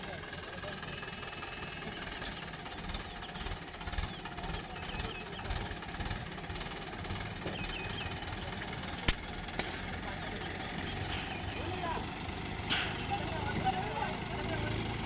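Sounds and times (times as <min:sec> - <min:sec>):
tractor diesel engine knocking: 0:00.0 - 0:15.0.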